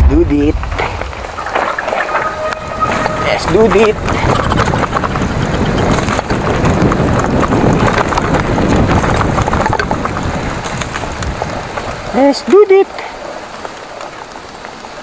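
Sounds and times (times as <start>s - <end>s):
wind buffeting microphone: 0.0s - 14.6s
bike rattling: 0.0s - 15.0s
bike tyres on dirt: 0.0s - 15.0s.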